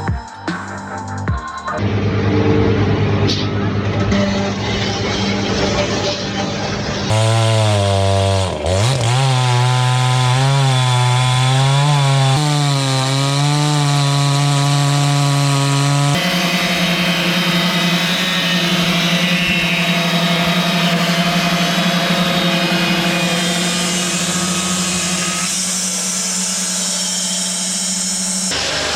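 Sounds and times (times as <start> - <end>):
chainsaw cutting wood: 4.1 - 28.9.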